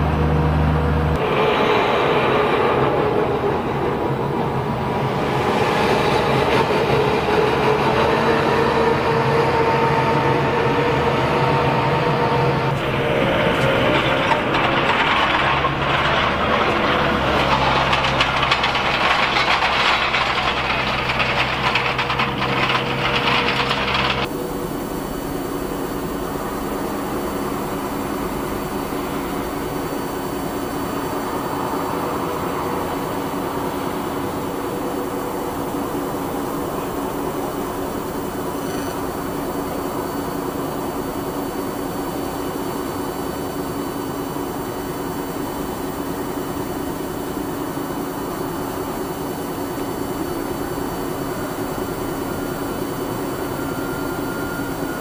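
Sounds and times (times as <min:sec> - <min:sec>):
jet engines roaring with whine: 0:00.0 - 0:55.0.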